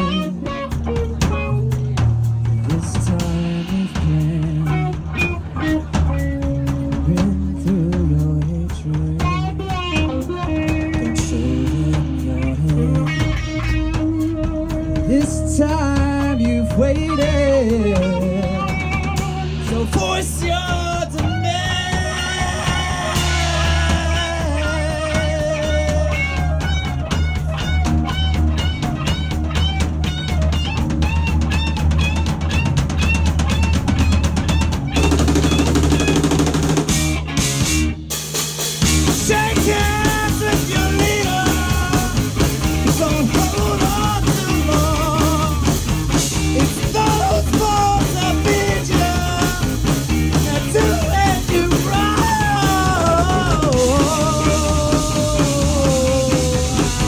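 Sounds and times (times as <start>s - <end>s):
drum kit fast beat: 0.0s - 57.0s
electric and acoustic guitars: 0.0s - 57.0s.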